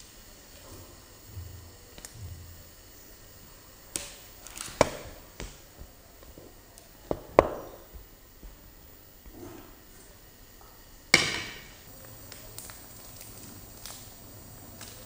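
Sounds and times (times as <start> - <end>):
faint simmer: 0.0 - 15.0.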